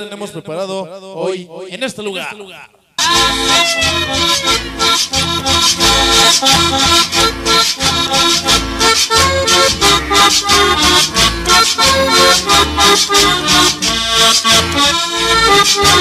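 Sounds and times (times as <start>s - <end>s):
accordion-led cumbia music: 3.0s - 16.0s.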